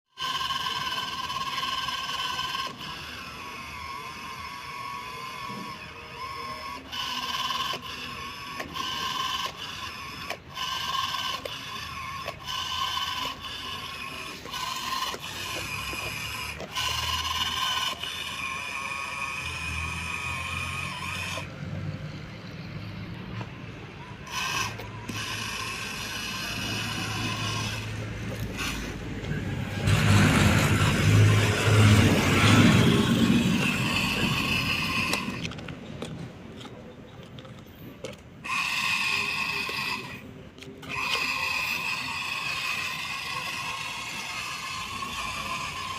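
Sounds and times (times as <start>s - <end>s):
small electric motor whining: 0.1s - 21.6s, 24.0s - 35.6s, 38.1s - 45.9s.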